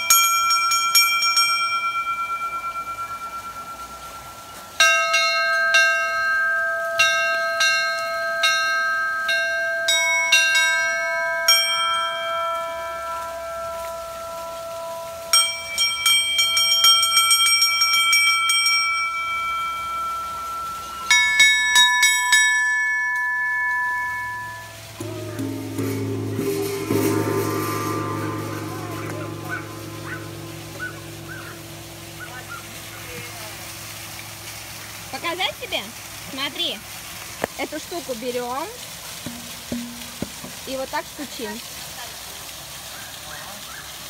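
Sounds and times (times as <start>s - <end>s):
bronze bells ringing: 0.0s - 36.8s, 37.8s - 41.6s.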